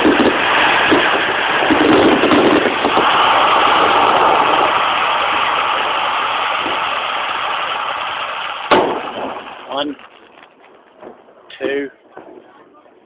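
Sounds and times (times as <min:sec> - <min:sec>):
fireworks bangs: 0:00.0 - 0:13.0
fireworks crackling and rumbling: 0:00.0 - 0:13.0.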